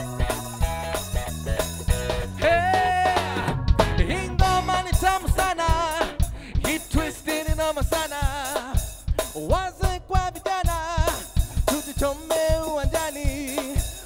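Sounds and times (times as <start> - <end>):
drum beat: 0.0 - 14.0
live band playing upbeat song: 0.0 - 14.0.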